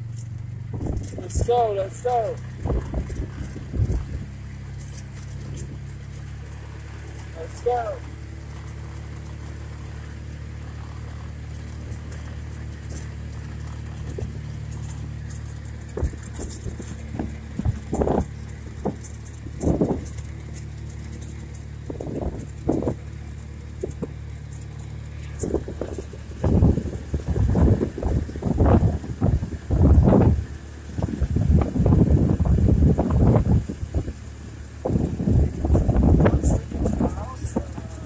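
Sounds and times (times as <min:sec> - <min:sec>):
small engine running steadily: 0:00.0 - 0:38.0.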